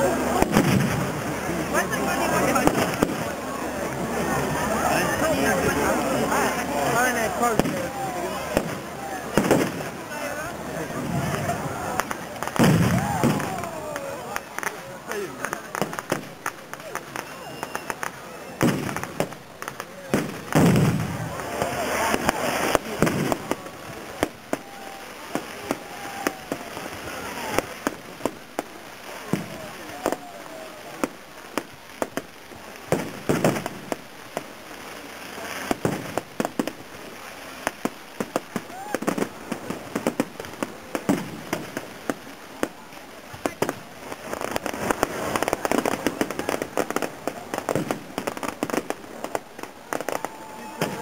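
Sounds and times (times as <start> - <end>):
fireworks banging: 0.0 - 51.0.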